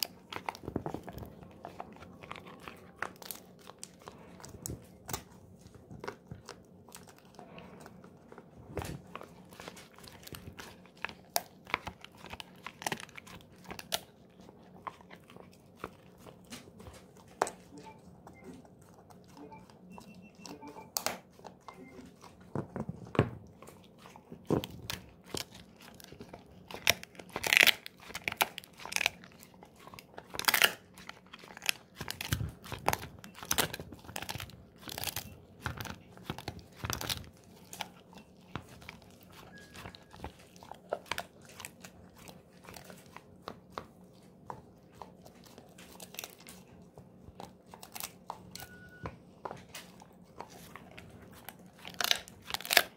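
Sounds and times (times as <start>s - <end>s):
dog chewing hard treat: 0.0s - 52.9s.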